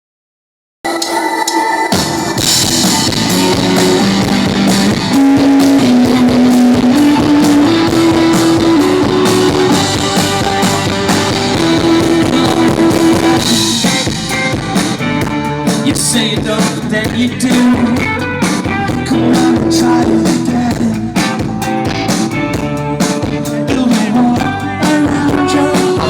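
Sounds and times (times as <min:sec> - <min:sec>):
drum kit: 0:00.9 - 0:26.0
held melody line: 0:01.0 - 0:26.0
guitar: 0:01.9 - 0:26.0.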